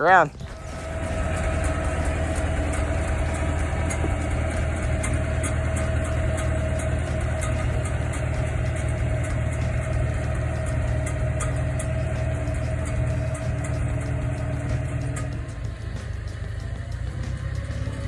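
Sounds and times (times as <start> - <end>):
steady whine: 0.0 - 18.0
vehicle engine running: 0.0 - 18.0.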